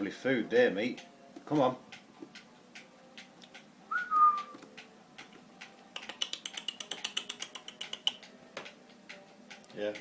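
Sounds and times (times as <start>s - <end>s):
budgie clicking chatter: 0.9s - 10.0s.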